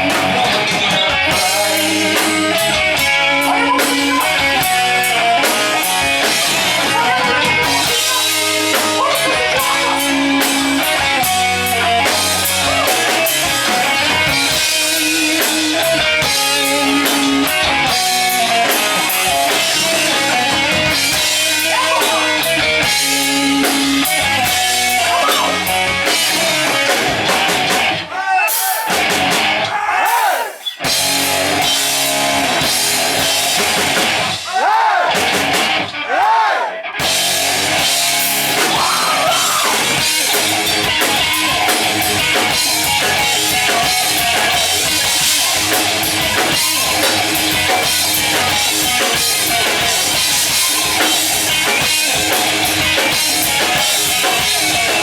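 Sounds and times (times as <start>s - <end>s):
bass guitar: 0.0s - 28.1s, 28.9s - 29.7s, 30.8s - 55.0s
distorted electric guitar bends: 0.0s - 28.1s, 30.8s - 34.5s, 35.1s - 36.0s, 36.9s - 55.0s
drums: 0.0s - 55.0s.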